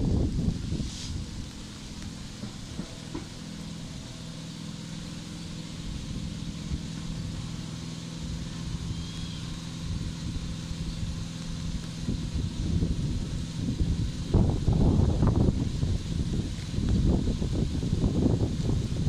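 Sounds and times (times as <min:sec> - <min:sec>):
miniature locomotive engine running: 0:00.0 - 0:19.0.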